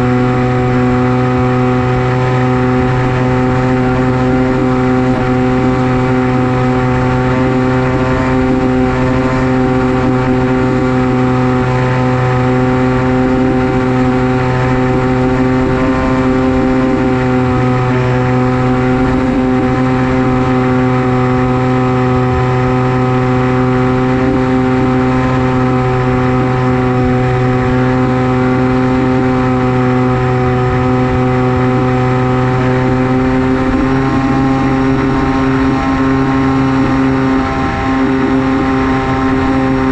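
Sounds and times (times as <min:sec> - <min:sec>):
propeller motor drone: 0:00.0 - 0:39.9.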